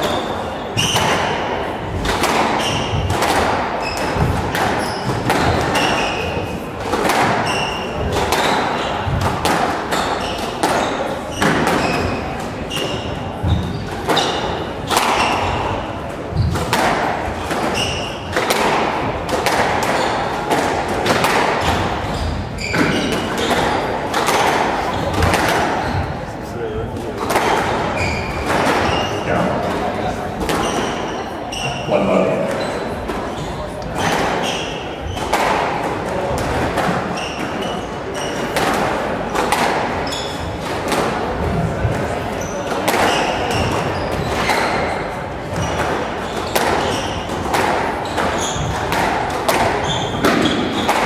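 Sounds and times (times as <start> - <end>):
shoes squeaking on wooden floor: 0.0 - 3.2, 3.8 - 6.6, 7.2 - 18.4, 21.6 - 26.5, 27.4 - 29.8, 30.4 - 35.5, 36.8 - 38.6, 39.8 - 40.6, 41.5 - 51.0
squash ball hit by rackets: 0.0 - 26.2, 27.2 - 31.1, 33.0 - 51.0.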